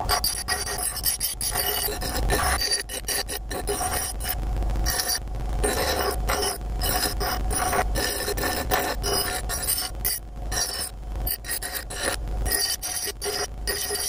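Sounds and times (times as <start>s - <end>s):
grinder motor hum: 0.0s - 14.0s
grinder wheel grinding steel: 0.0s - 14.0s.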